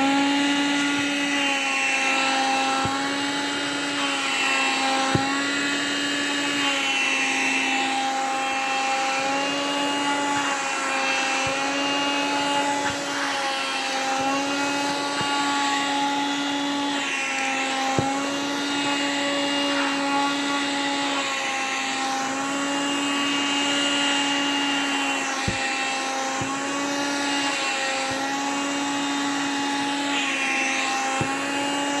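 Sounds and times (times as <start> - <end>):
vacuum cleaner whine: 0.0 - 32.0.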